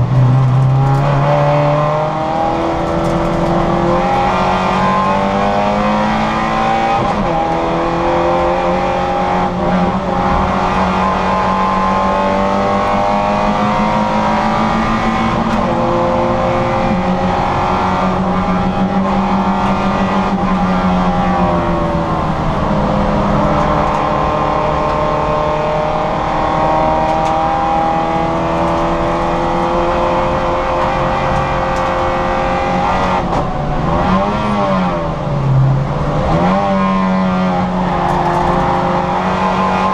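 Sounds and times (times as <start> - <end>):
car engine revving at high revs: 0.0 - 39.9.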